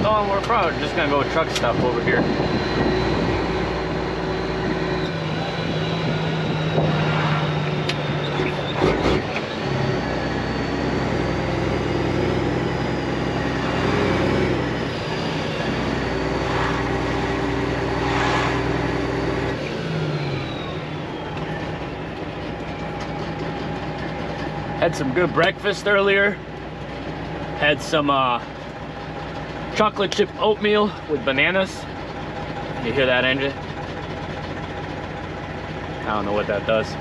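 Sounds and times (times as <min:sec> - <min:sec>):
diesel truck engine: 0:00.0 - 0:37.0.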